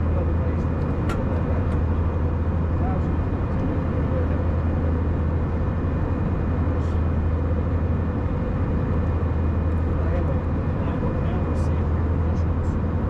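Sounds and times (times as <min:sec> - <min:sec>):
airliner cabin engine drone: 0:00.0 - 0:13.0.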